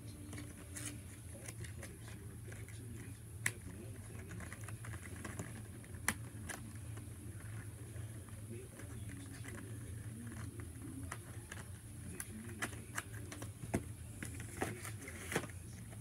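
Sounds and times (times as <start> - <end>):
paper and markers tapping: 0.0 - 16.0.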